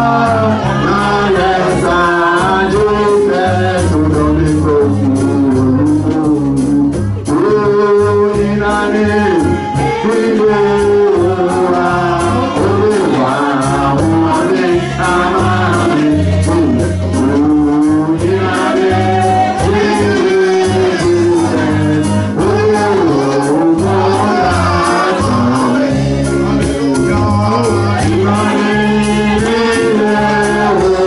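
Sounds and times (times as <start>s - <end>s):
live gospel music with singing: 0.0s - 31.0s.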